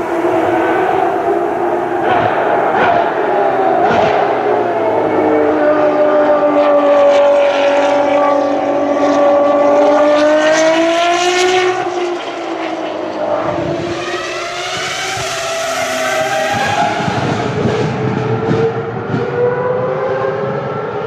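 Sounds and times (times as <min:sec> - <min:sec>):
racing car engine at high revs: 0:00.0 - 0:21.0
second engine accelerating: 0:00.0 - 0:21.0.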